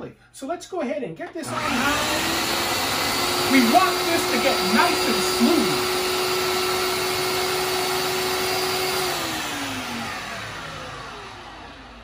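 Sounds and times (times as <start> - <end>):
blender motor whining: 1.4 - 12.0.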